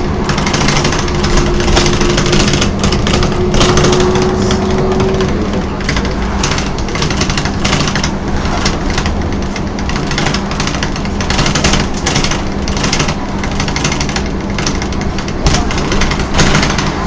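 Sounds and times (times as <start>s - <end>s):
bus drivetrain hum: 0.0s - 17.0s.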